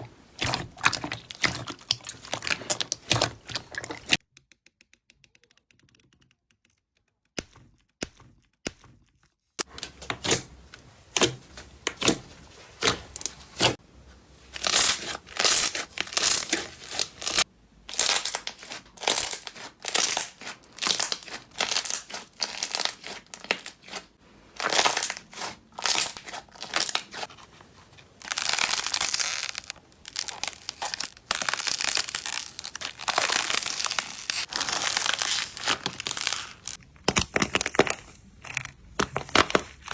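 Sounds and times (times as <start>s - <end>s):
slime crackling and crunching: 0.0s - 4.2s, 9.6s - 27.4s, 28.1s - 39.9s.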